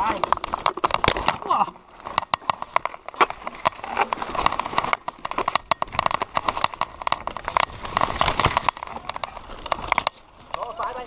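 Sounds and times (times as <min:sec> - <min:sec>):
mountain bike rattling over rough trail: 0:00.0 - 0:11.0.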